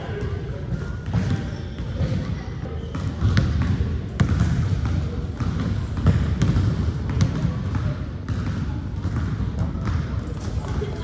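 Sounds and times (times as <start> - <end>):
basketball bouncing on court: 0.0 - 11.0.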